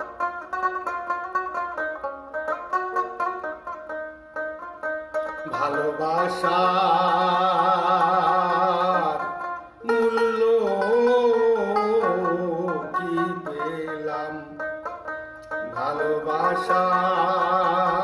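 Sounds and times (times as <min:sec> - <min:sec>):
long wavering held melody notes: 0:00.0 - 0:18.0
plucked string instrument: 0:00.0 - 0:18.0.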